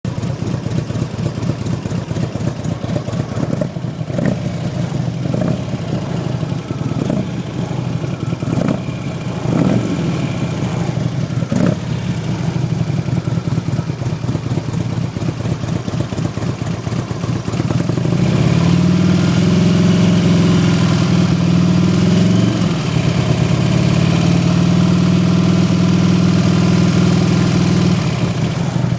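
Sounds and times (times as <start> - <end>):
motorcycle engine idling and revving: 0.0 - 28.9
engine lifter ticking: 0.1 - 28.9.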